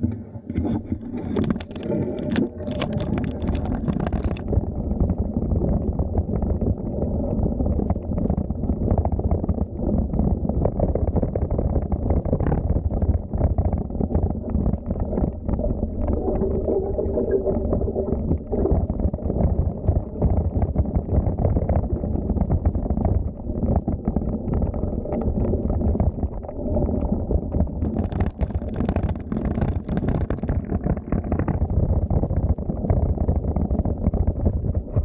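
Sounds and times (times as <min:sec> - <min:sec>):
bicycle rumble: 0:00.0 - 0:35.0.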